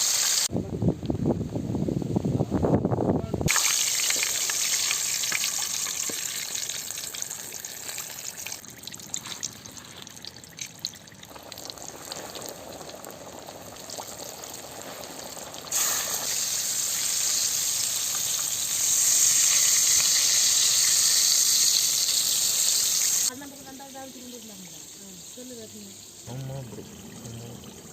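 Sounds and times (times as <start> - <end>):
oil sizzling while deep-frying: 0.0 - 0.5, 3.5 - 27.2.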